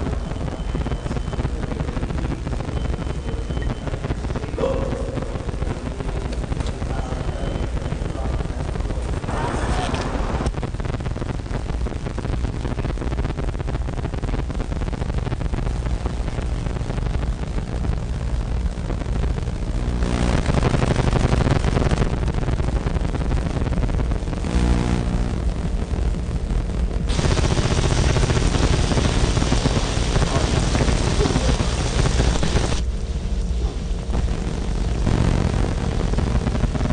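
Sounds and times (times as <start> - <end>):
low rumbling noise: 0.0 - 36.9.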